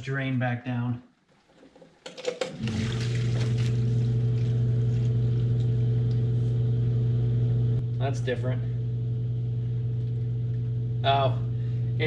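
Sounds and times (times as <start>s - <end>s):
pump motor humming: 2.1s - 12.0s.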